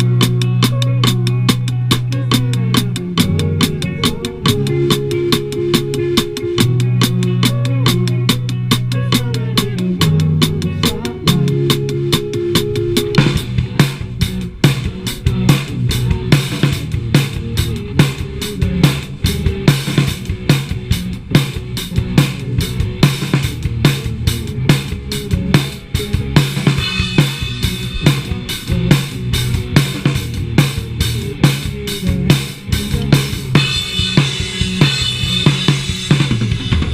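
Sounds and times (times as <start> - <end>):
drum kit beat: 0.0 - 36.9
live band playing: 0.0 - 36.9.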